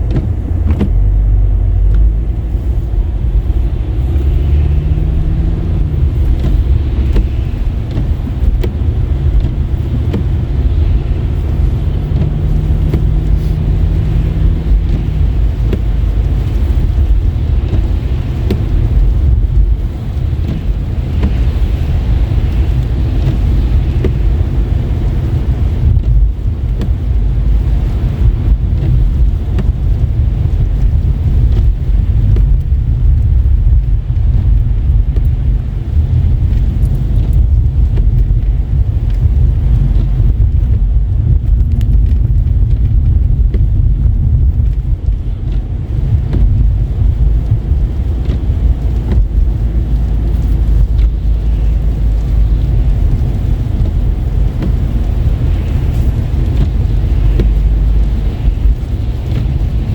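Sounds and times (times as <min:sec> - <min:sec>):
car tyres on slushy road: 0:00.0 - 0:59.9.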